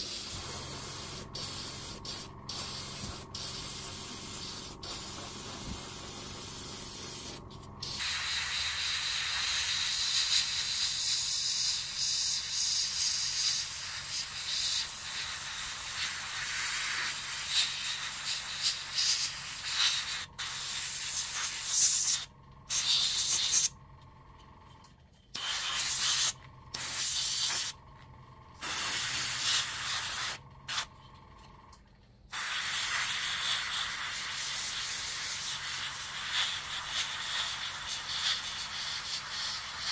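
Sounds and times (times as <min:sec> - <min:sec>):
airbrush hissing: 0:00.0 - 0:23.8, 0:25.4 - 0:27.8, 0:28.6 - 0:30.9, 0:32.3 - 0:39.9.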